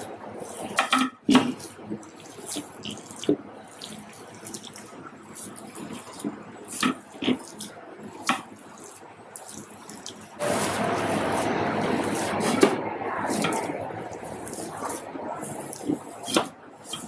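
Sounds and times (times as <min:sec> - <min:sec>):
hands squelching batter: 0:00.0 - 0:17.0
running water: 0:00.0 - 0:17.0.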